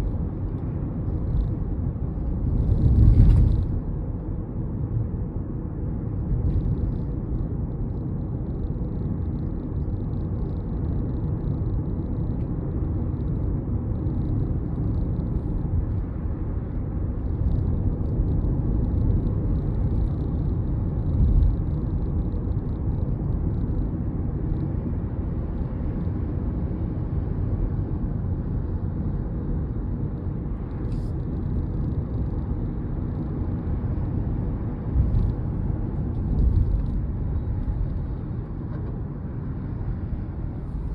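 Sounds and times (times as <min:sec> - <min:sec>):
road and wind rumble: 0:00.0 - 0:40.9.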